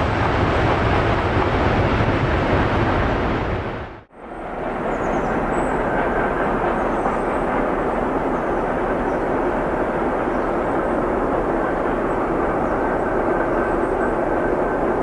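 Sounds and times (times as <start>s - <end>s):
diesel locomotive engine straining: 0.0s - 15.0s.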